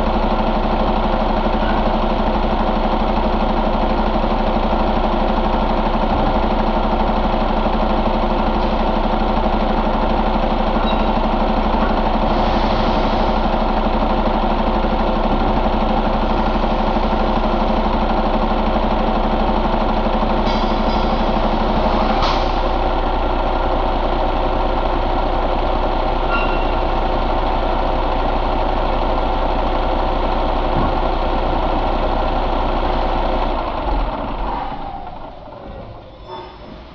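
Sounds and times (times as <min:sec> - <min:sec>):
diesel truck engine idling: 0:00.0 - 0:36.2.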